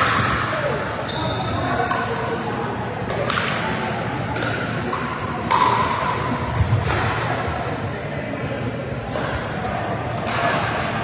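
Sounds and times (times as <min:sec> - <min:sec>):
sports hall background noise: 0:00.0 - 0:11.0.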